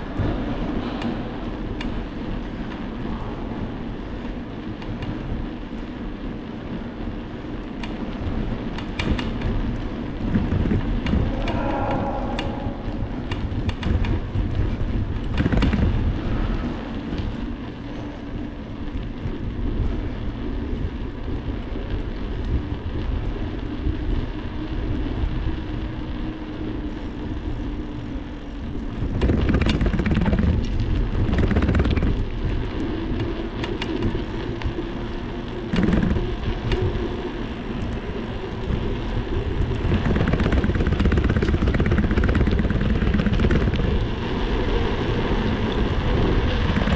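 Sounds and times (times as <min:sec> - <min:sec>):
bicycle rattles: 0:00.0 - 0:46.9
road rumble: 0:00.0 - 0:46.9
wind buffeting microphone: 0:00.0 - 0:46.9.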